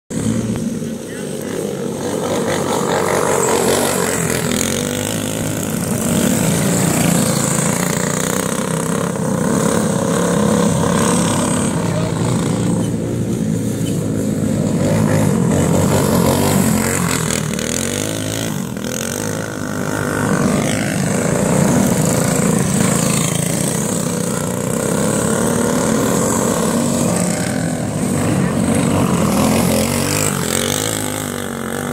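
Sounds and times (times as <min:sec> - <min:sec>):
racing kart engines: 0:00.1 - 0:31.9.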